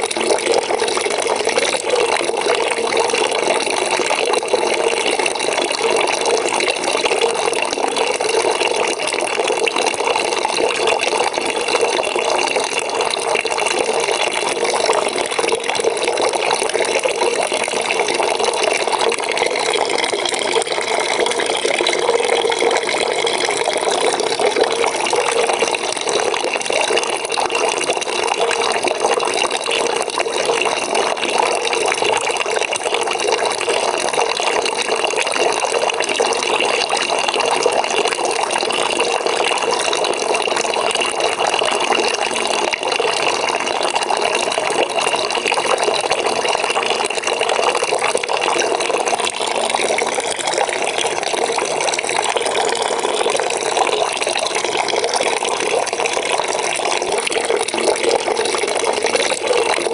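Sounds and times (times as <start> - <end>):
tap water filling a bucket: 0.0 - 59.9.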